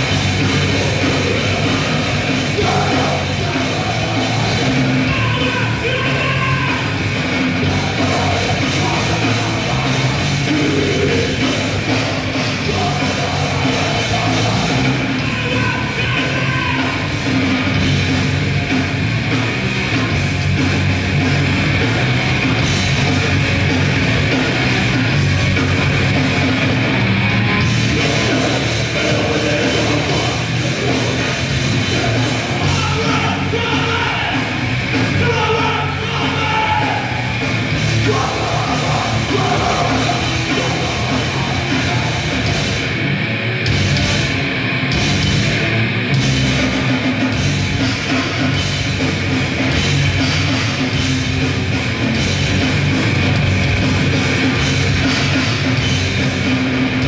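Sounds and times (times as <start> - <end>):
grindcore band playing live: 0.0 - 57.0
yelled vocals: 0.0 - 57.0.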